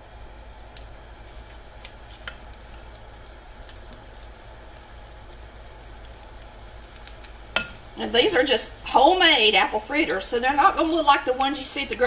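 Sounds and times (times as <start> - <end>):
batter sizzling in oil: 0.0 - 12.0.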